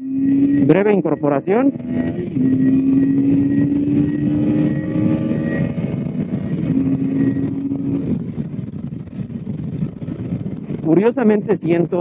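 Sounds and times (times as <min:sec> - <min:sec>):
wind noise rushing: 0:00.0 - 0:12.0.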